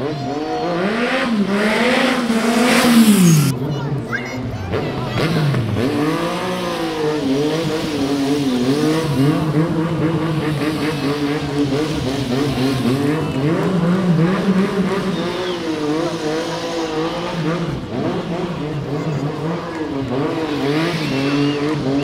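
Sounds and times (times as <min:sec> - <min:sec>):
motorcycle engine revving: 0:00.0 - 0:03.7, 0:04.7 - 0:22.0.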